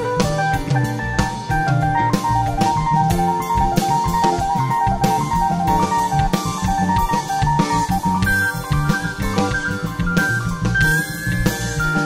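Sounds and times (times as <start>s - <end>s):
funk band playing live: 0.0s - 12.0s.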